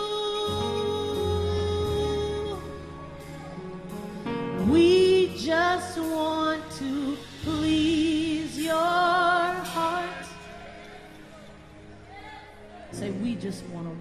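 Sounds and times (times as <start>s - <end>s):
woman singing gospel: 0.0s - 10.8s, 12.1s - 14.0s
held accompaniment chords: 0.0s - 14.0s.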